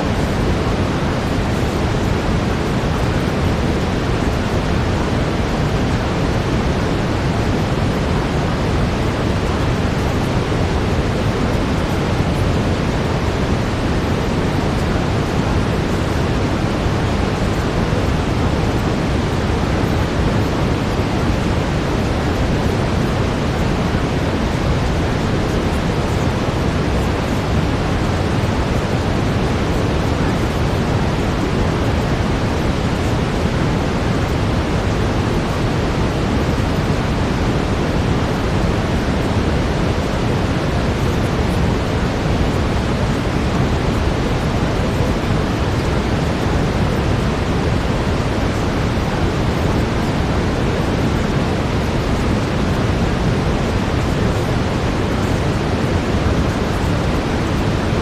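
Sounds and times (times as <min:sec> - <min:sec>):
deep steady hiss: 0:00.0 - 0:58.0.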